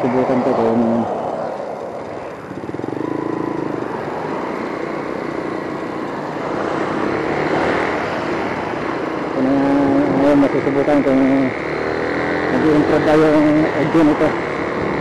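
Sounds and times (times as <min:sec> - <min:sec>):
fast engine pulsing: 0:00.0 - 0:15.0
passing cars and motorcycles: 0:00.0 - 0:15.0.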